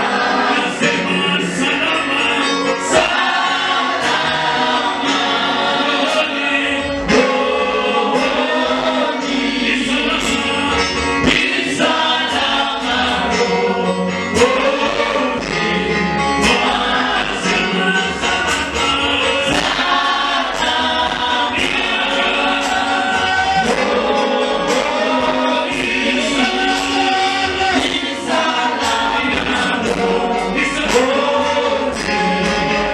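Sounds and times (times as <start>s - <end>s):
gospel choir singing: 0.0s - 32.9s
percussion beat: 0.0s - 32.9s.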